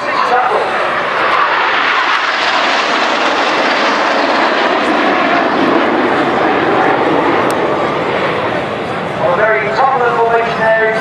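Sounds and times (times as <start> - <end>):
jet roar: 0.0 - 11.0.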